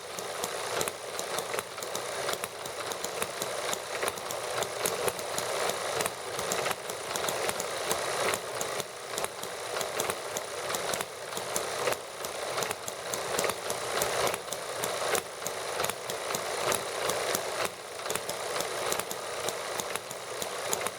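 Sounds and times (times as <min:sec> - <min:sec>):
small engines firing pops: 0:00.1 - 0:20.9.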